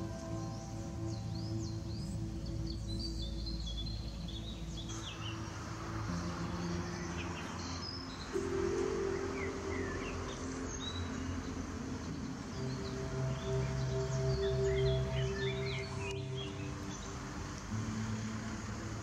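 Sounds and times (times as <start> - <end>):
small birds chirping: 0.0 - 19.0
soft ambient music: 0.0 - 19.0.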